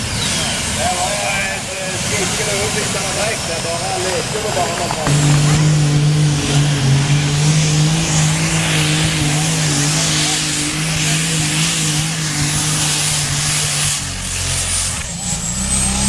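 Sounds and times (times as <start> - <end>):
tractor engine running loud: 0.0 - 16.0.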